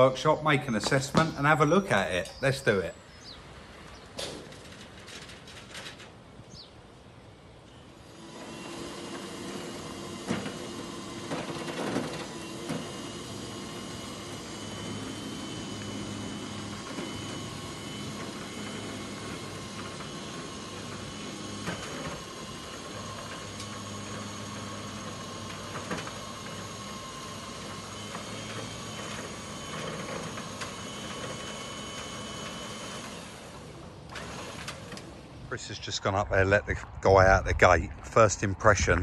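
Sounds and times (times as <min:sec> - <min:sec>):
winch and engine whining: 0:00.0 - 0:36.2.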